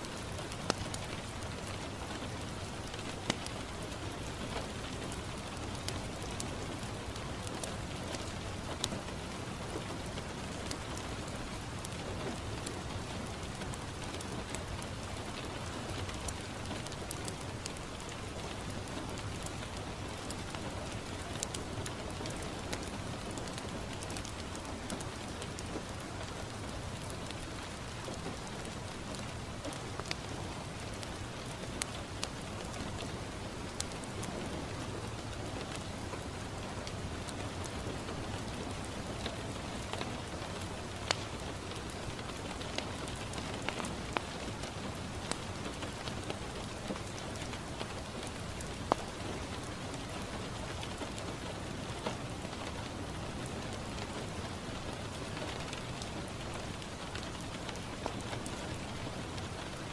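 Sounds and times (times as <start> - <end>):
rain on a window: 0.0 - 59.9
wood fire crackling: 0.0 - 59.9.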